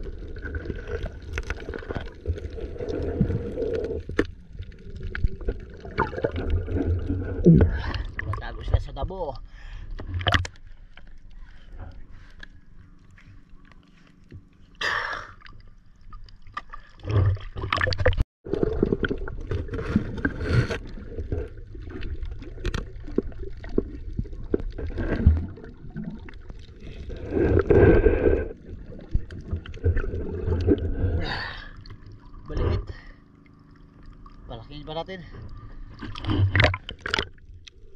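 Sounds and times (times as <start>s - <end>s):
water splashing and lapping: 0.0s - 8.8s, 9.8s - 37.9s
underwater rumble and bubbling: 0.0s - 37.9s.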